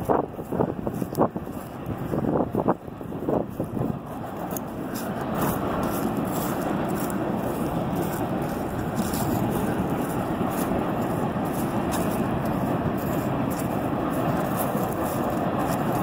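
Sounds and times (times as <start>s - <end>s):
distant freight train rumbling: 0.0s - 16.0s.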